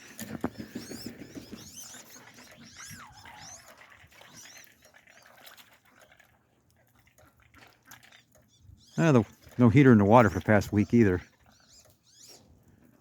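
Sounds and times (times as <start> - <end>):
waterfowl whistling and chirping: 0.0 - 6.2, 7.9 - 12.6.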